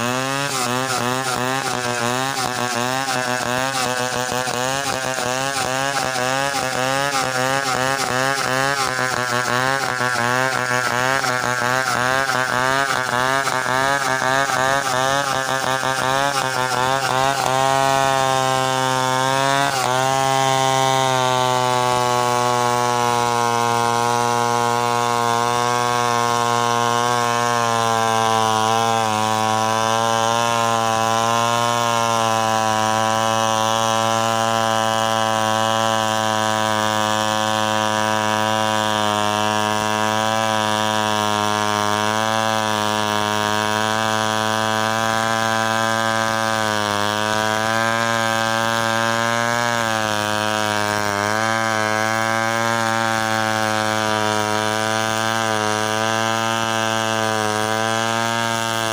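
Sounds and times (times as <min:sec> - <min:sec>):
chainsaw cutting through trunk: 0:00.0 - 0:58.9.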